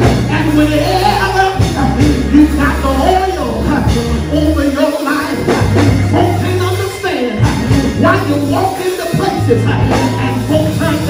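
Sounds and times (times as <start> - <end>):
live church music: 0.0 - 11.0
preacher chanting amplified: 0.0 - 11.0.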